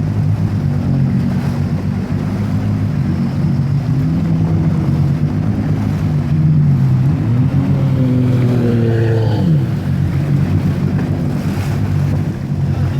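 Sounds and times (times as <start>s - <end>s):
jet ski engine running: 0.0s - 12.9s.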